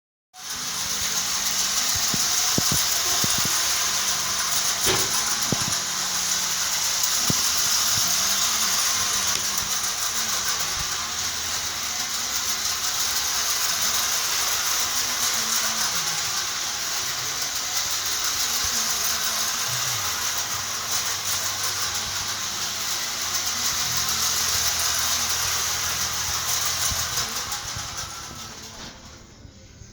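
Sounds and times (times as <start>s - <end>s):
clockwork clicks: 0.4s - 29.2s
clockwork whirring: 0.4s - 29.9s.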